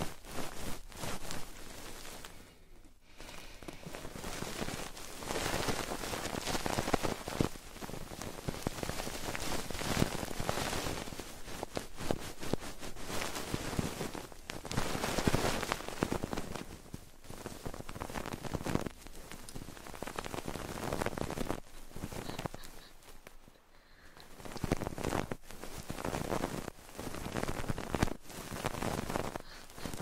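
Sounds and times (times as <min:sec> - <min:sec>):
crackly rustling: 0:00.0 - 0:30.0.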